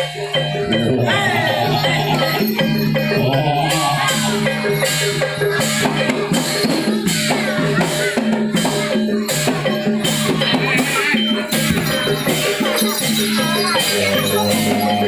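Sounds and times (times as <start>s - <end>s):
gamelan ensemble with drums: 0.0s - 15.0s
wavering melody line: 0.0s - 15.0s.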